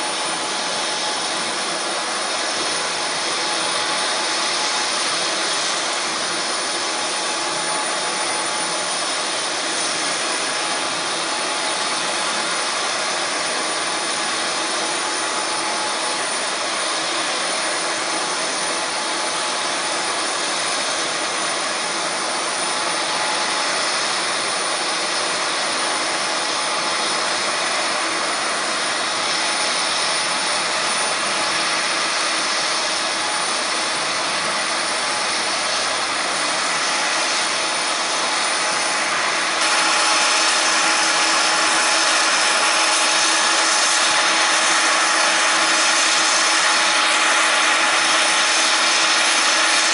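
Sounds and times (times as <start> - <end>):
jet engine whine: 0.0 - 49.9
jet engines rushing: 0.0 - 49.9.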